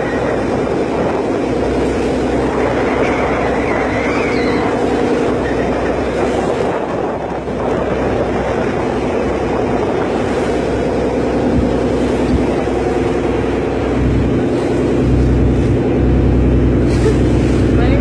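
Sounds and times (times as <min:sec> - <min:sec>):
deep engine rumble: 0:00.0 - 0:18.0
ferry engine droning hum: 0:00.0 - 0:18.0.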